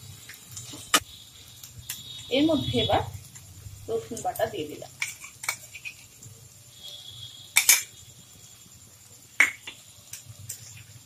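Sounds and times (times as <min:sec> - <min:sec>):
faint frying sizzle: 0:00.0 - 0:11.0.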